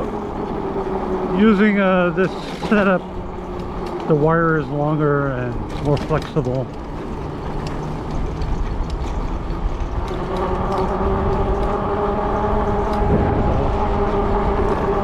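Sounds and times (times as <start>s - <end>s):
small-engine power equipment drone: 0.0s - 15.0s
wind rumble on microphone: 0.0s - 15.0s.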